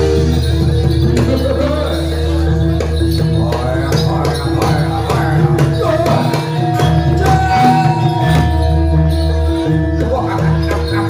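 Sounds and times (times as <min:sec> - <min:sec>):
drum strokes: 0:00.0 - 0:11.0
gamelan music: 0:00.0 - 0:11.0.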